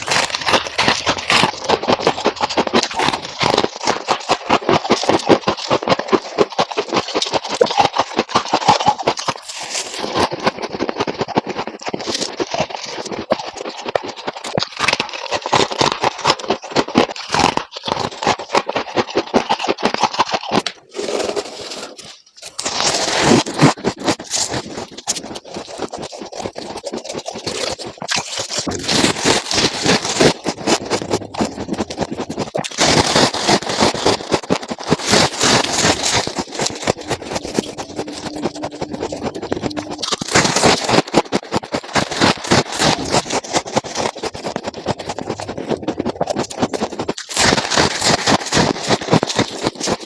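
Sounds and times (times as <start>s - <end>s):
ice crunching between teeth: 0.0s - 50.0s.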